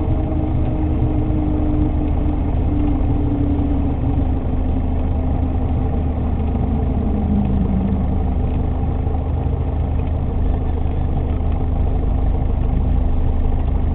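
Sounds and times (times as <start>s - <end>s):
aircraft engine and propeller idling: 0.0s - 13.9s.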